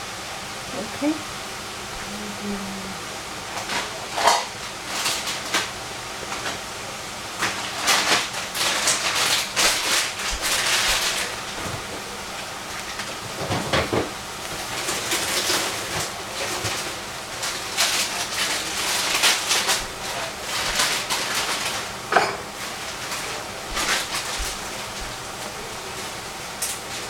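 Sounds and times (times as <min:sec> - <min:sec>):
vegetables sizzling in a saucepan: 0:00.0 - 0:27.0.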